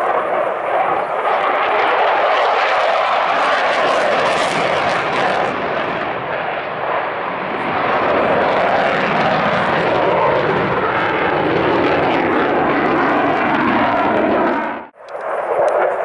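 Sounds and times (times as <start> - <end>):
fighter jet engine roar: 0.0 - 16.0.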